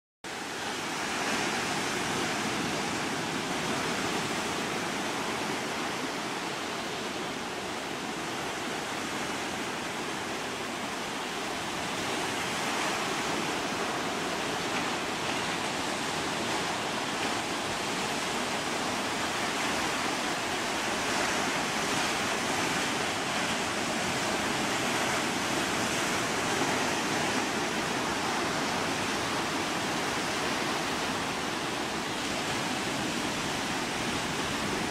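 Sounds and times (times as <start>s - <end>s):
sea water rushing: 0.3s - 34.9s.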